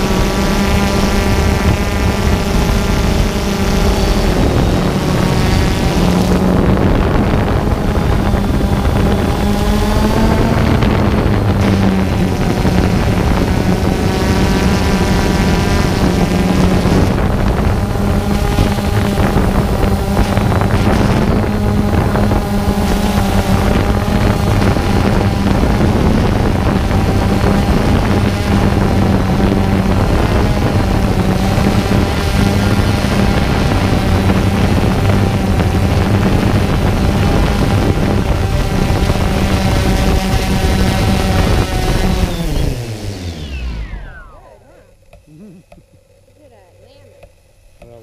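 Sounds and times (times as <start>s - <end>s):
wind buffeting microphone: 0.0s - 45.1s
propeller motors running: 0.0s - 48.0s.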